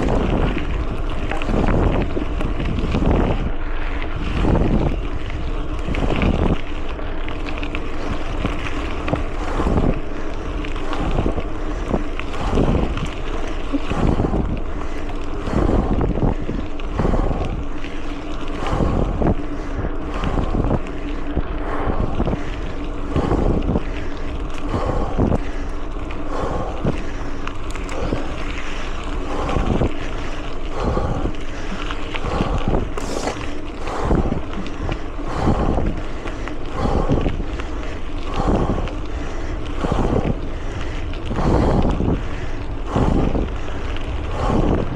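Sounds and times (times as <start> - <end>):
bike tyre and trail noise: 0.0 - 44.9
wind buffeting microphone: 0.0 - 44.9.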